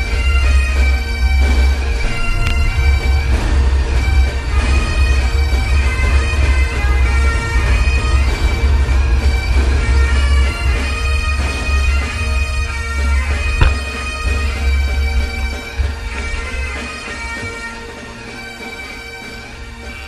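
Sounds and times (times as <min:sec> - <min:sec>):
bagpipe music: 0:00.0 - 0:20.0.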